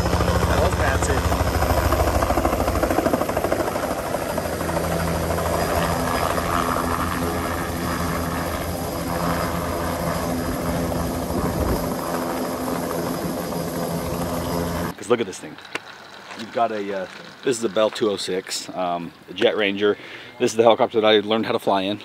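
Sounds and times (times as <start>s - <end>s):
helicopter rotor beating: 0.0s - 19.3s
helicopter turbine running: 0.0s - 20.7s.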